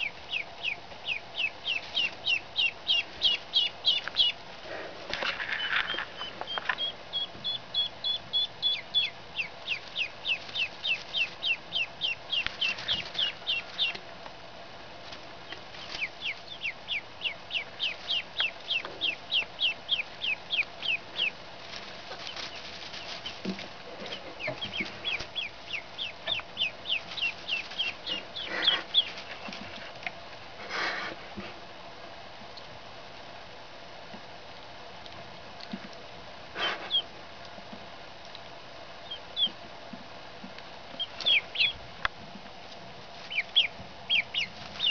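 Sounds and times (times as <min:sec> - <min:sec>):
ducklings peeping: 0:00.0 - 0:31.6, 0:35.0 - 0:44.9.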